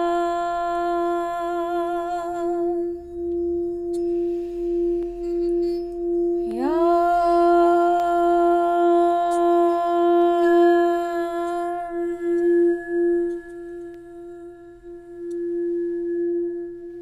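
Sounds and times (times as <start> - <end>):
singing bowl tone: 0.0 - 17.0.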